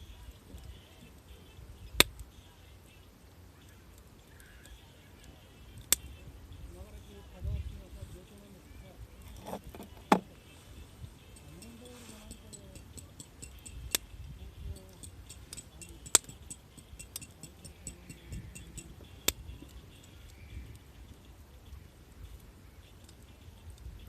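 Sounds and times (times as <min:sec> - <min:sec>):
burning wood popping: 0:00.0 - 0:24.0
campfire crackling: 0:00.0 - 0:24.0.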